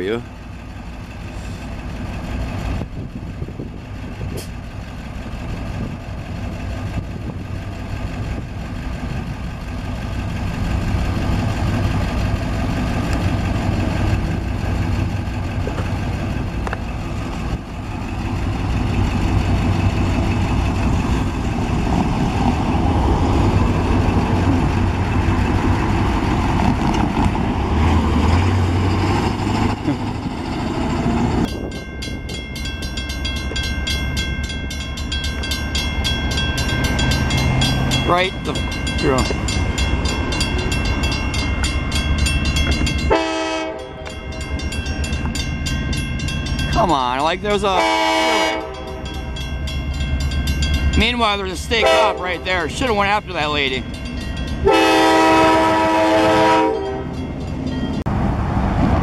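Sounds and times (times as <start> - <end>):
bus engine idling: 0.0 - 54.7
passing road traffic: 0.0 - 59.0.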